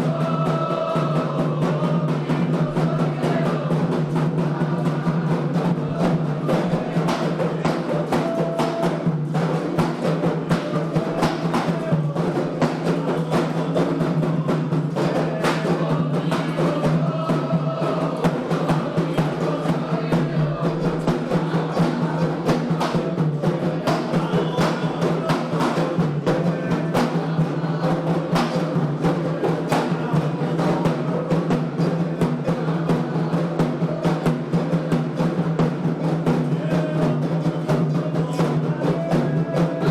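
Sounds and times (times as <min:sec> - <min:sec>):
hand drums playing: 0:00.0 - 0:39.9.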